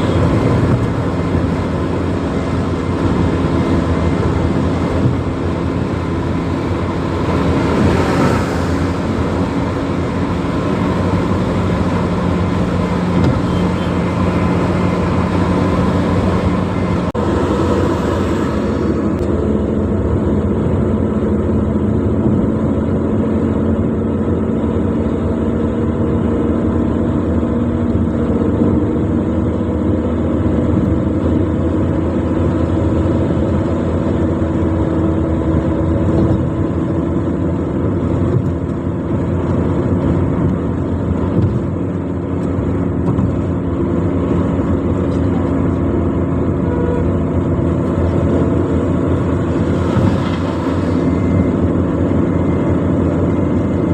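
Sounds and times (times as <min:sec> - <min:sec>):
car engine hum: 0:00.0 - 0:53.9
road and tyre noise: 0:00.0 - 0:53.9.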